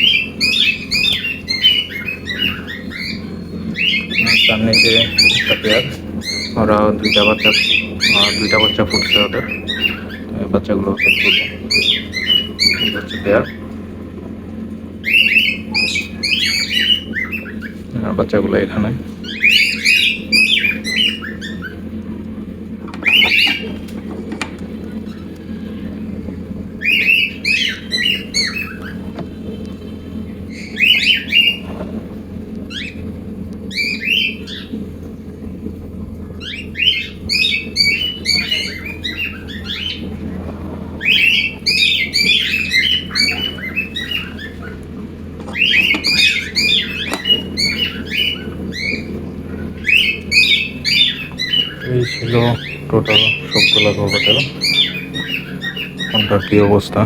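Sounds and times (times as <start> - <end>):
cockatiels squawking and chirping: 0.0 - 22.0, 22.7 - 34.8, 36.2 - 57.0
steady low hum: 0.0 - 57.0.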